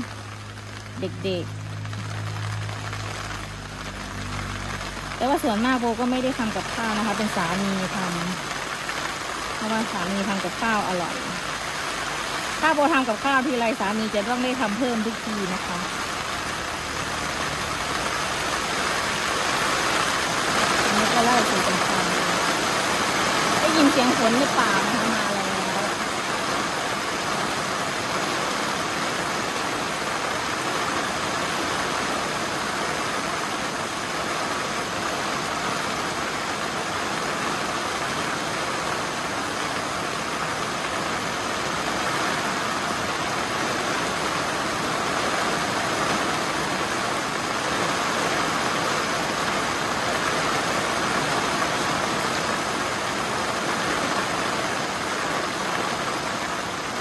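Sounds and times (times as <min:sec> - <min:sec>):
heavy rain on plastic roof: 0:00.0 - 0:57.0.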